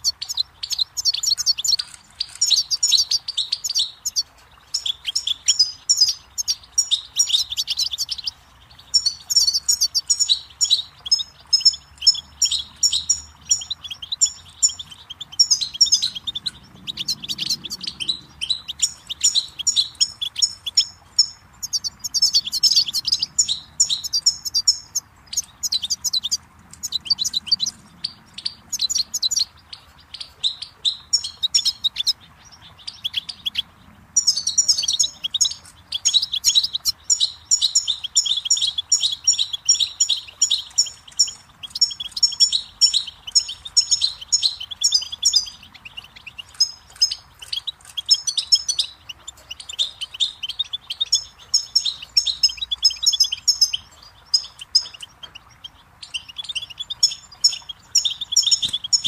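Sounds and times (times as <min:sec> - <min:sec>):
finch twittering song: 0:00.0 - 0:59.0
running water: 0:00.0 - 0:59.0.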